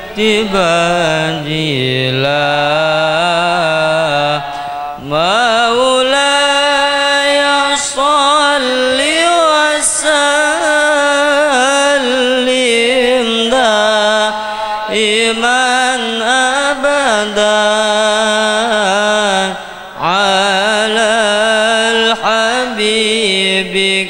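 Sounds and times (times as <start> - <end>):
person chanting melismatically: 0.0 - 24.0.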